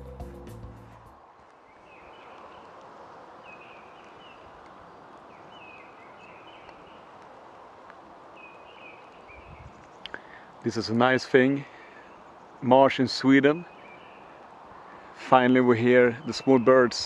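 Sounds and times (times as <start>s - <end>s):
faint outdoor rush: 0.0s - 17.0s
songbirds chirping: 0.0s - 17.0s.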